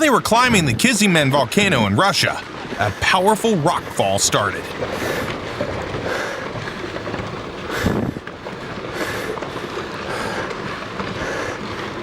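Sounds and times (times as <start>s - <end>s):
rocks tumbling and clattering: 0.0s - 12.0s.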